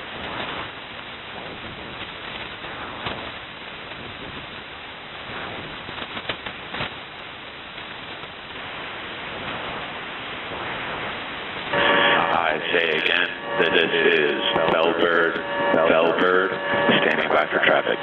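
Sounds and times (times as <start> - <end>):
radio static hiss: 0.0 - 18.0
sharp static crackles: 0.0 - 18.0.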